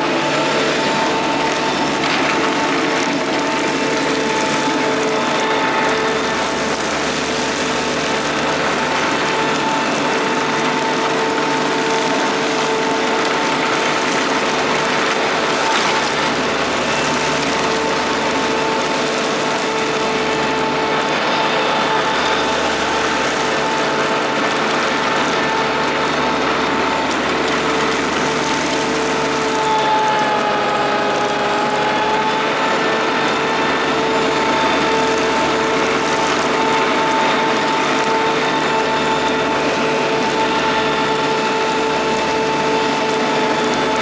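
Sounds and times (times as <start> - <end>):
diesel engine running: 0.0 - 44.0
vacuum fan whine: 0.0 - 44.0.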